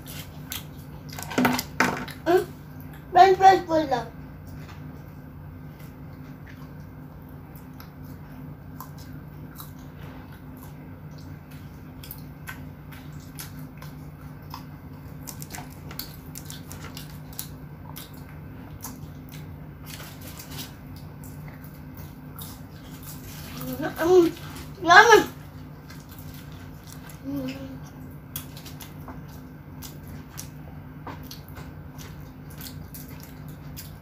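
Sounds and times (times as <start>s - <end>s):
child chewing crunchy food: 0.0s - 3.1s, 4.2s - 34.0s.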